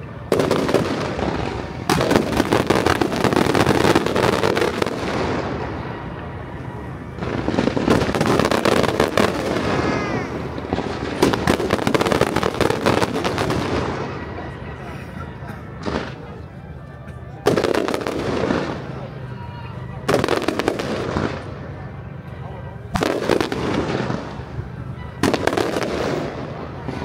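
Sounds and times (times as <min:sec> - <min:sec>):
firecrackers crackling: 0:00.0 - 0:27.0.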